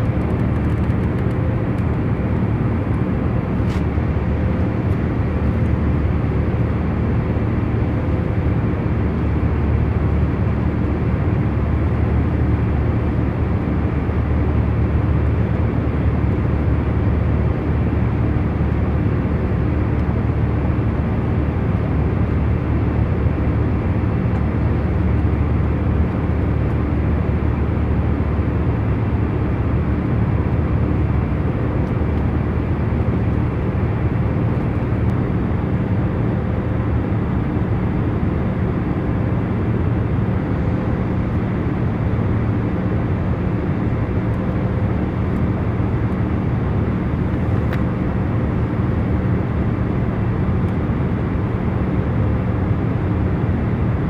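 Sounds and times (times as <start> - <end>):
engine and air noise rumble: 0.0 - 54.0.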